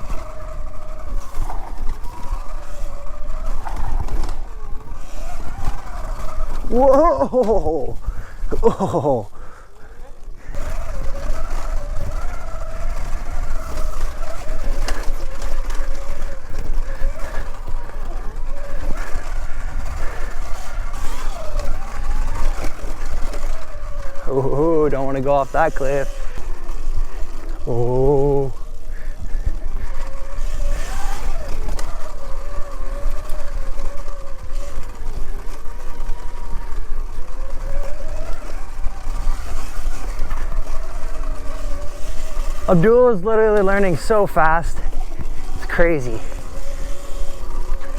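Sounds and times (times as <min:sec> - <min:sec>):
electric motor whining: 0:00.0 - 0:47.9.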